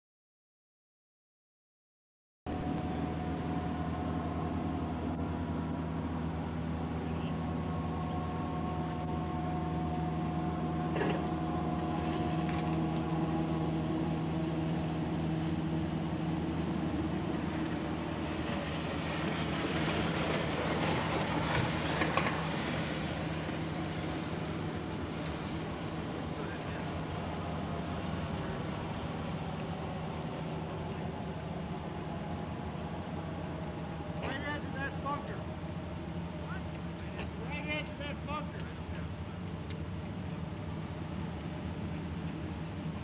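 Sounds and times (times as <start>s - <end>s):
mechanical hum: 2.5s - 43.0s.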